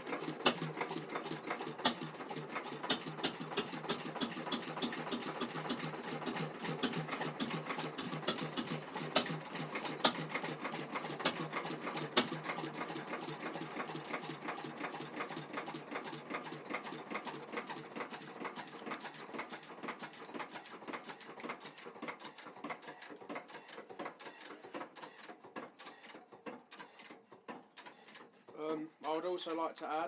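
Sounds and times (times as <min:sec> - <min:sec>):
stationary engine clattering: 0:00.0 - 0:28.5.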